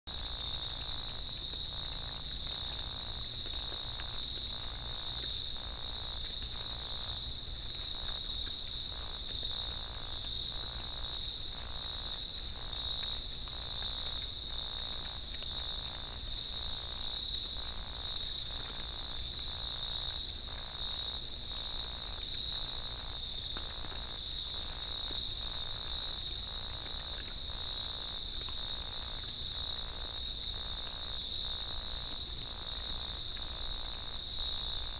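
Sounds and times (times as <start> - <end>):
crickets chirping: 0.1 - 34.9.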